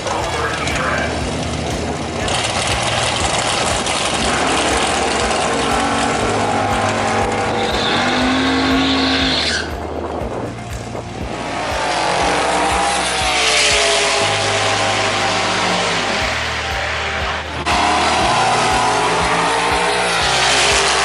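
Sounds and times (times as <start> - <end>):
muscle car engines revving: 0.0 - 21.0.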